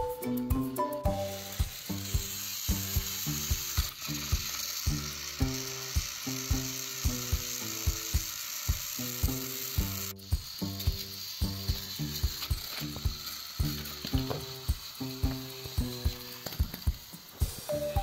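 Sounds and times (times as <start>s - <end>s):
background music with steady beat: 0.0s - 18.0s
toy train motors whirring: 0.6s - 18.0s.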